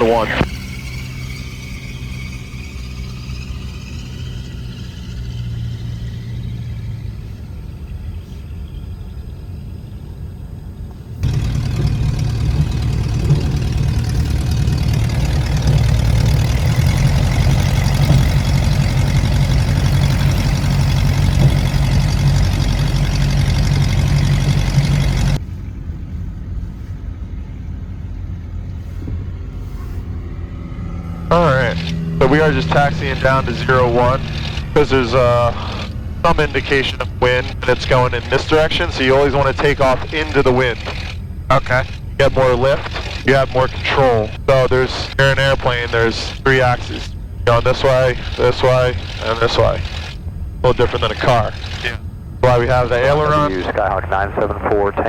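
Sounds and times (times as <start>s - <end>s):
propeller plane engine from cabin: 0.0s - 55.0s.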